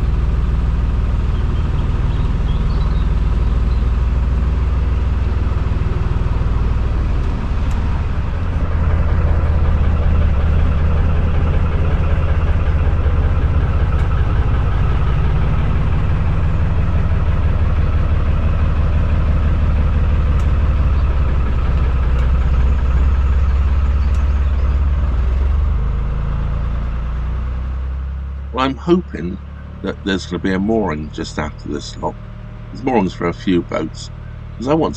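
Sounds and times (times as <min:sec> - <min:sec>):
diesel boat engine throbbing: 0:00.0 - 0:34.9.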